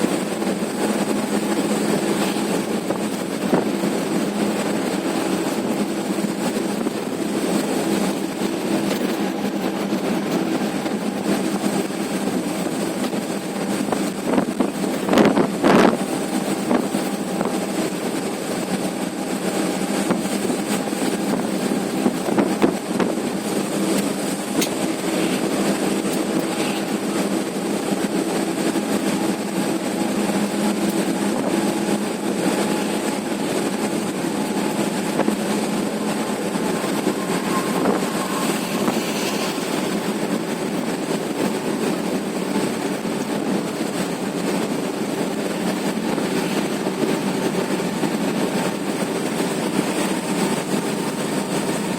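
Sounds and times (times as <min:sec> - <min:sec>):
truck engine and road drone: 0:00.0 - 0:51.9.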